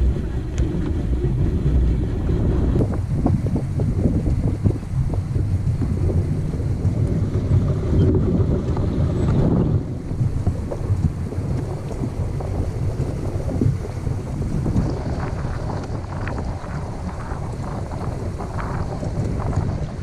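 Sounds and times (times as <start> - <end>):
water sloshing around hull: 0.0 - 20.0
wind buffeting microphone: 0.0 - 20.0.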